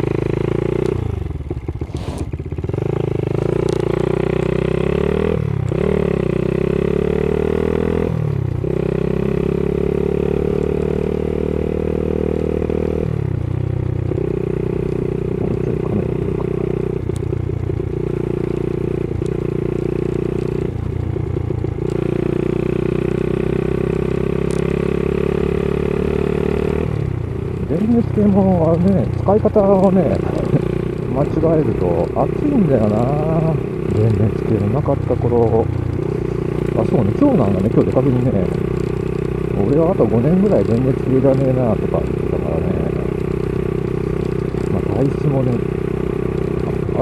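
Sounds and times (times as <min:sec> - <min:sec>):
small motorcycle engine revving: 0:00.0 - 0:47.0.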